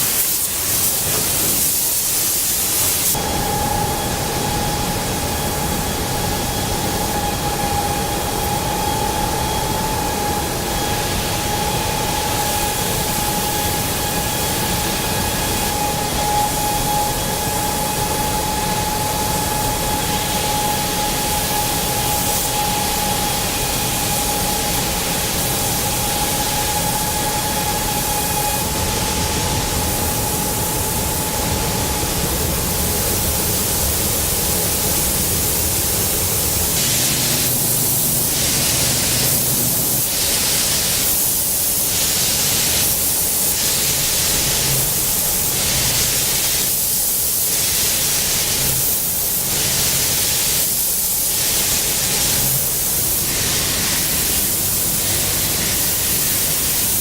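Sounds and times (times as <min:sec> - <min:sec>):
machinery hiss: 0:00.0 - 0:57.0
steady machine whine: 0:02.2 - 0:47.3, 0:51.6 - 0:57.0.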